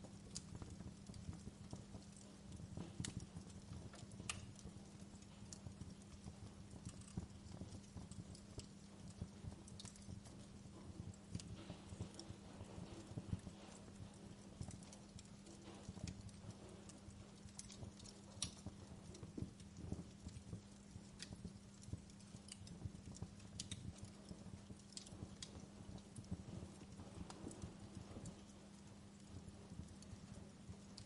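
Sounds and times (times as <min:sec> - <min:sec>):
steady low hum: 0:00.0 - 0:31.0
wood fire crackling: 0:00.0 - 0:31.0.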